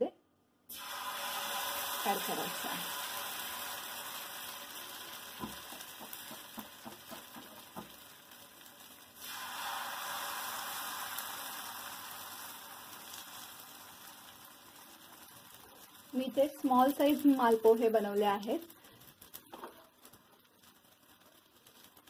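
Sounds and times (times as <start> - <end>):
batter sizzling in hot oil: 0.7 - 22.0.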